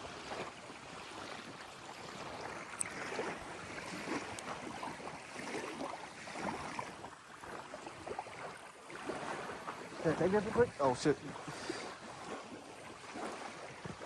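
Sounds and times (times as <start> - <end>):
water lapping at shore: 0.0 - 14.0
wind: 0.0 - 14.0.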